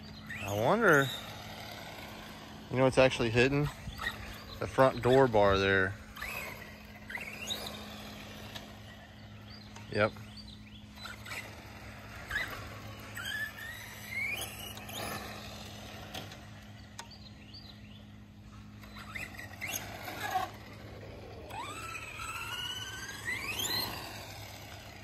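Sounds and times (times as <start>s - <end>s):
electric motor whining: 0.0s - 25.0s.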